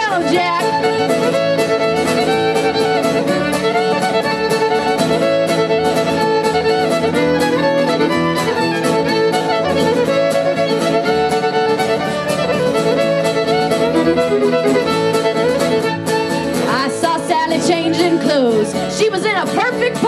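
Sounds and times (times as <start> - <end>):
bowed violin melody: 0.0 - 20.0
live band music: 0.0 - 20.0.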